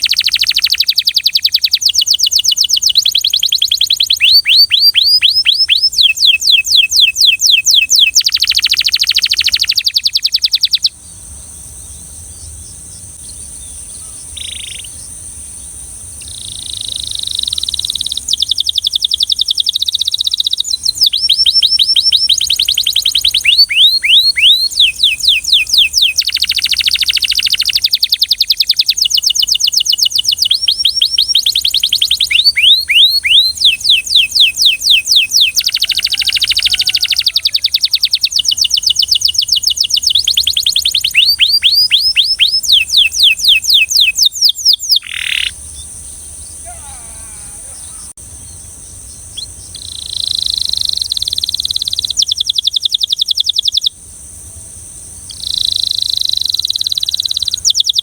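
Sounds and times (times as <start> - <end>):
canary singing: 0.0 - 11.2, 11.8 - 15.2, 16.1 - 54.0, 55.2 - 58.0.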